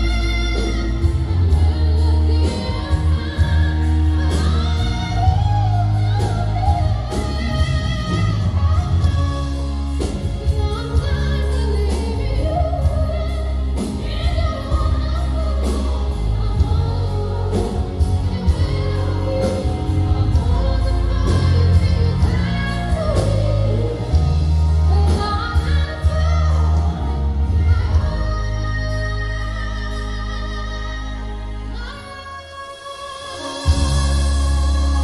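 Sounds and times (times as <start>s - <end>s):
heavy bass: 0.0s - 32.2s, 33.4s - 35.0s
live backing band: 0.0s - 35.0s
woman singing: 0.0s - 35.0s.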